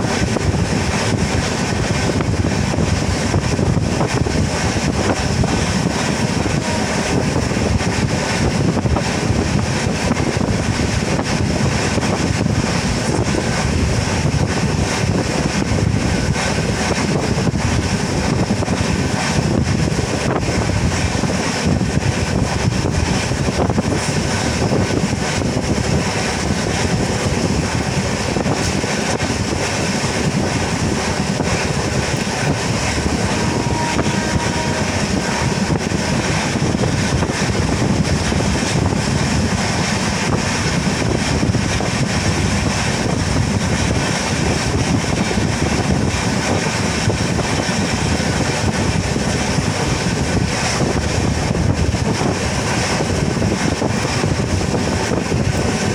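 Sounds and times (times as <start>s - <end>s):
rushing wind: 0.0s - 55.9s
train wheels rumbling on rail: 0.0s - 55.9s.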